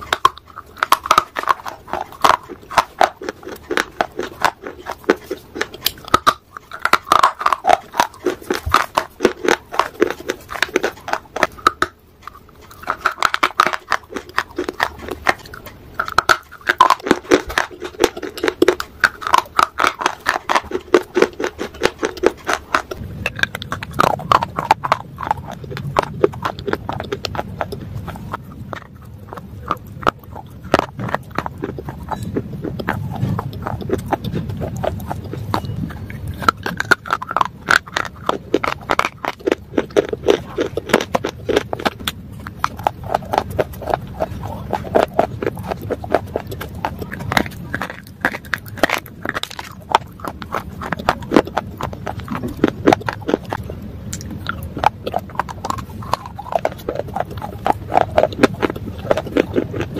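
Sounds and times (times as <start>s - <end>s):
crunching and chewing: 0.0s - 59.9s
low hum: 0.0s - 59.9s.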